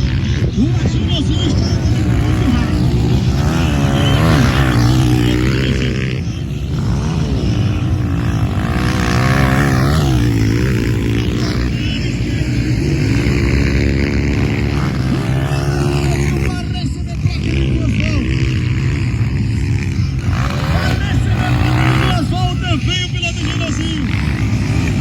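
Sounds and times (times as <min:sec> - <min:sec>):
motorcycle engines revving past: 0:00.0 - 0:25.0.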